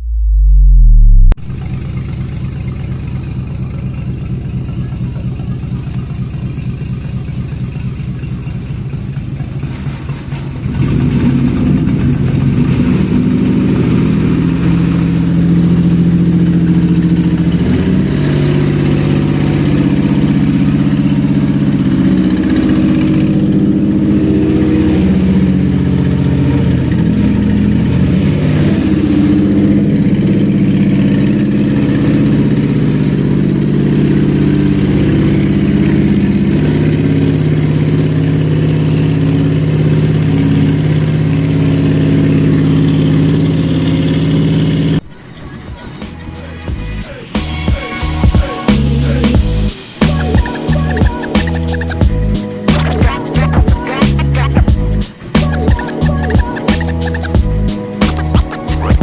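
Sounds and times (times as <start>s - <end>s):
engine running and revving: 0.0s - 45.1s, 46.0s - 59.0s.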